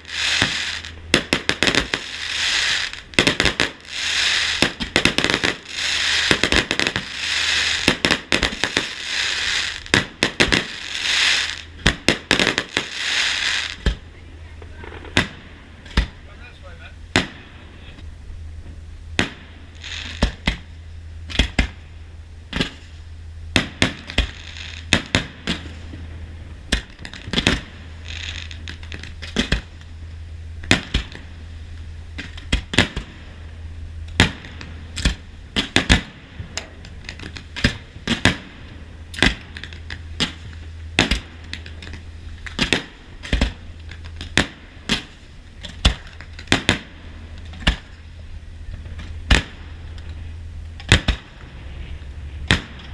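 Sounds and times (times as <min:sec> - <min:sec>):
fireworks bangs: 0:00.0 - 0:17.9, 0:18.6 - 0:20.7, 0:23.5 - 0:29.8, 0:30.6 - 0:31.4, 0:32.2 - 0:33.4, 0:34.1 - 0:47.9, 0:48.7 - 0:50.2, 0:50.8 - 0:52.9
steady low hum: 0:00.0 - 0:52.9.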